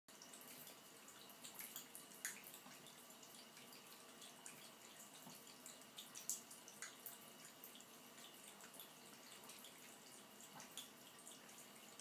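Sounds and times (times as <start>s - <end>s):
cat lapping water: 0.1s - 12.0s
thin stream of water trickling: 0.1s - 12.0s.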